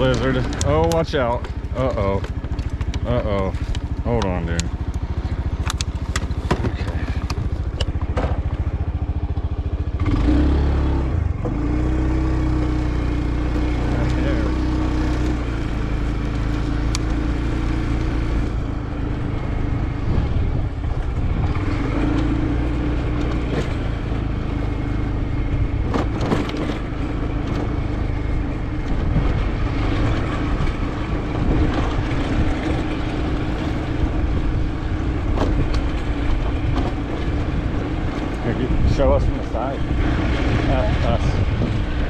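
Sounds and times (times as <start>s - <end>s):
motorbike engine running: 0.0s - 42.0s.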